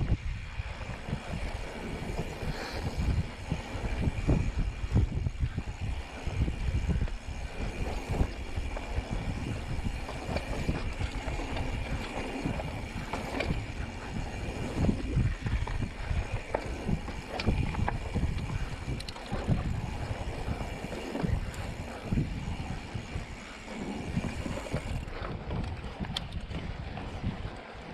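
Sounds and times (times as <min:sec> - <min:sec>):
wind buffeting microphone: 0:00.0 - 0:27.9
tyres rumbling on rock: 0:00.8 - 0:27.7
bike knocks and rattles: 0:00.8 - 0:27.9.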